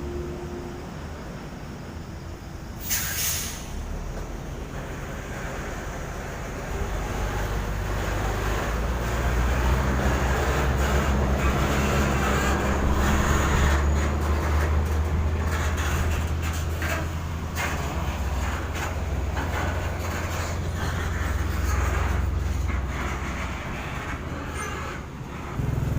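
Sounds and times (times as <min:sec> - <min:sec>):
large vehicle engine rumbling: 0:00.0 - 0:25.9
road and wheel noise: 0:00.0 - 0:25.9.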